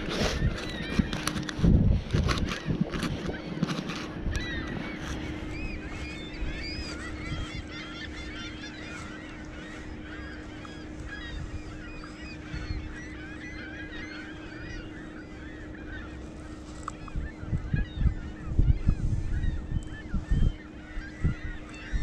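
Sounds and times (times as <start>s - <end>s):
flock of birds calling: 0.0s - 22.0s
steady low hum: 0.0s - 22.0s.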